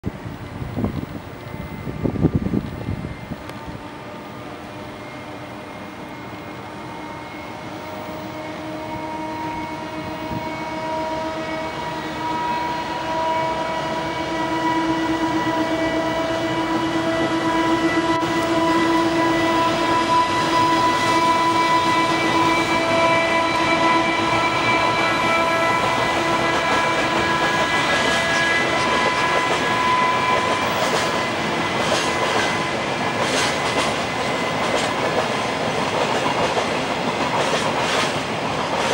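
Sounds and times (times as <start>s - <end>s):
locomotive traction motor whine: 0.3s - 35.6s.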